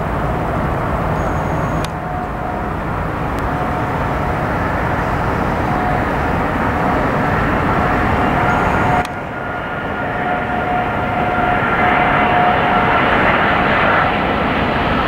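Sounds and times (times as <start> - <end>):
faint fan whine: 0.0 - 13.6
jet engines rumbling: 0.0 - 15.0.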